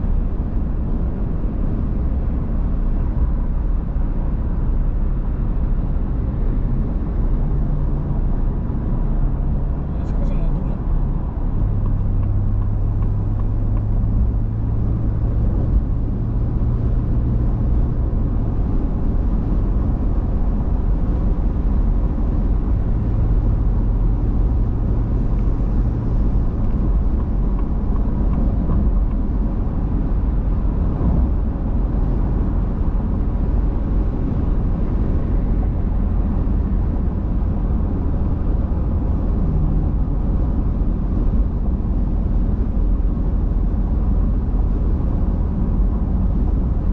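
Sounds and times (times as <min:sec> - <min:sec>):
road and engine noise: 0:00.0 - 0:46.9.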